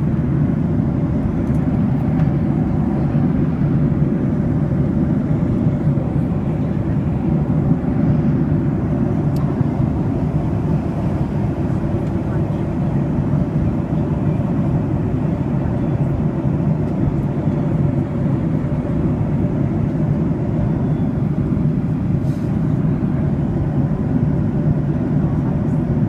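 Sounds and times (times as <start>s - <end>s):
airplane low rumble: 0.0s - 26.0s.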